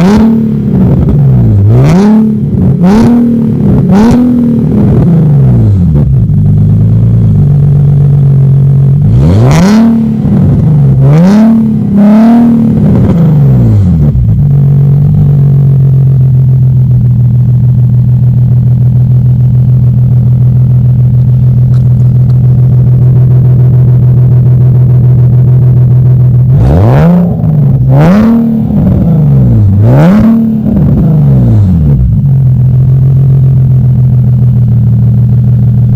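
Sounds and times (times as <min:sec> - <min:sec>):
car engine revving and idling: 0:00.0 - 0:35.9.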